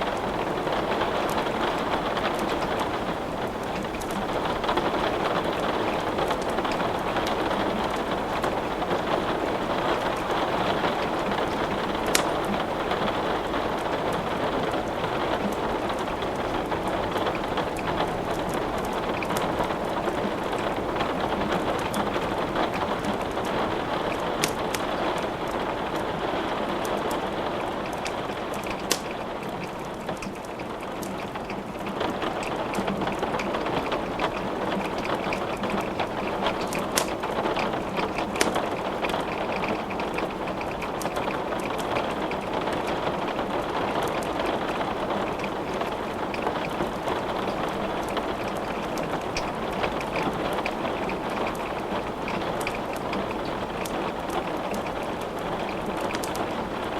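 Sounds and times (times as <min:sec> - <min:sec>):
steady rain falling: 0:00.0 - 0:56.9
wood popping in fireplace: 0:00.1 - 0:22.0, 0:24.1 - 0:25.6, 0:27.9 - 0:43.0, 0:45.3 - 0:56.5.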